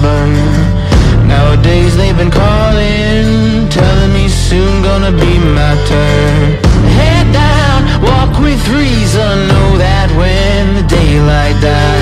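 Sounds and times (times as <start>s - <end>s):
low bass notes: 0.0s - 12.0s
sung melody: 0.0s - 12.0s.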